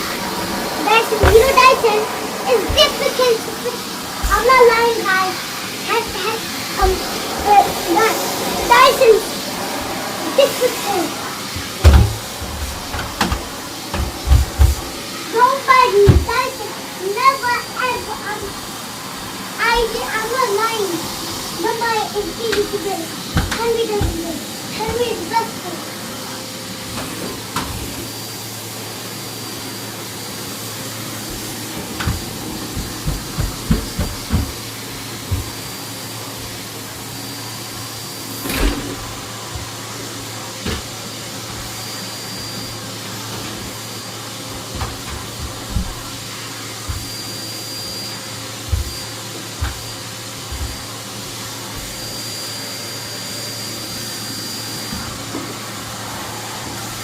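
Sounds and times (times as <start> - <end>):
vacuum cleaner humming: 0.0 - 57.0.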